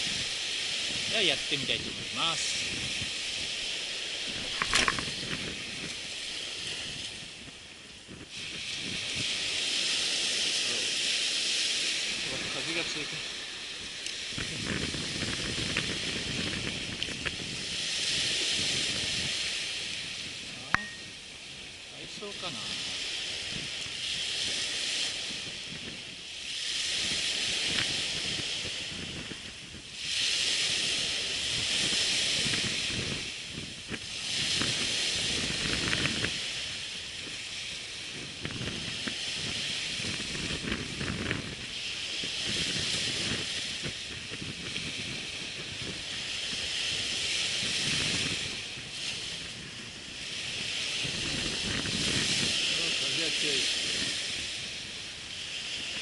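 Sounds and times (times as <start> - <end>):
surf washing on sand: 0.0 - 56.0
wind buffeting microphone: 0.0 - 56.0.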